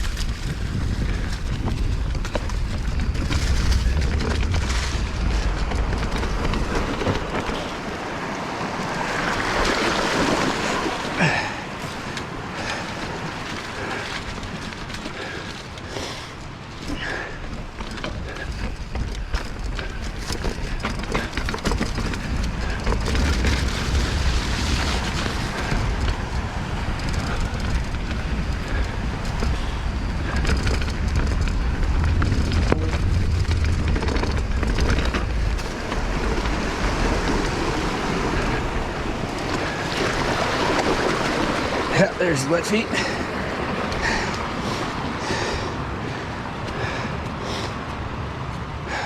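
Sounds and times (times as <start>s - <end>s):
bike rattling over rough trail: 0.0s - 49.0s
wind on microphone: 0.0s - 49.0s.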